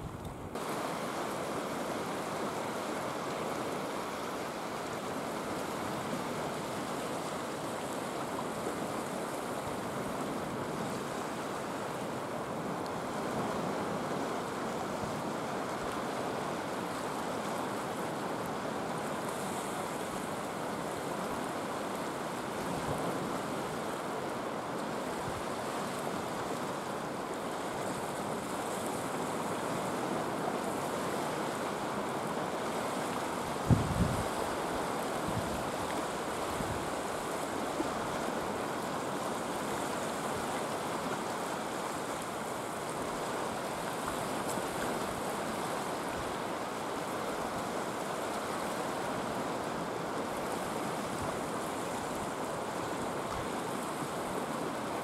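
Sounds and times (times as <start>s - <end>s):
waves breaking over rocks: 0.0s - 55.0s.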